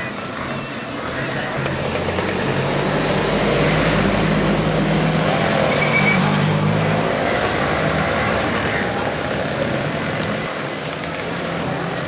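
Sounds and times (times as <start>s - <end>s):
hiss of passing traffic: 0.0s - 12.0s
vehicle engine humming: 0.0s - 12.0s.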